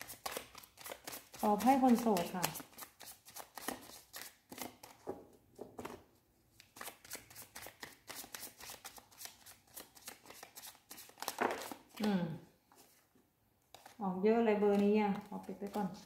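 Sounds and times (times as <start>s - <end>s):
cards being shuffled: 0.0s - 13.1s, 13.7s - 14.0s, 14.6s - 16.0s.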